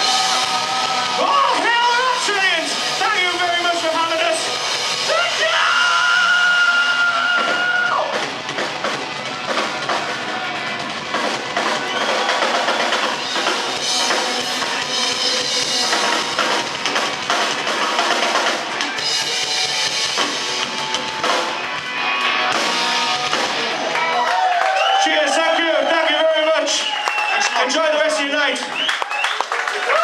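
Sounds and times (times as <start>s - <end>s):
drum kit: 0.0s - 25.6s
rock band playing live: 0.0s - 28.8s.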